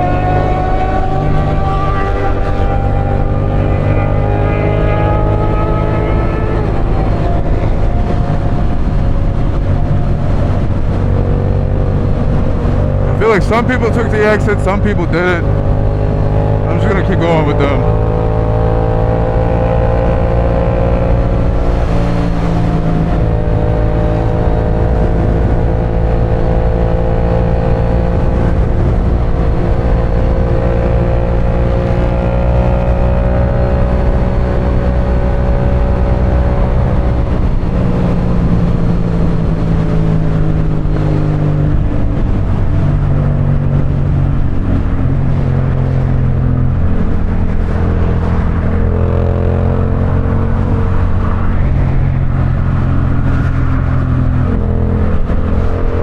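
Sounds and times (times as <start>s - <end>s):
motorcycle engine at speed: 0.0s - 13.0s, 17.8s - 56.0s.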